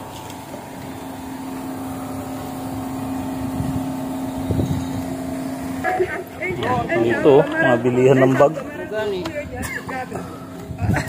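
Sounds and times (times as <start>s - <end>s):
motor vehicle engine hum: 0.0s - 11.0s.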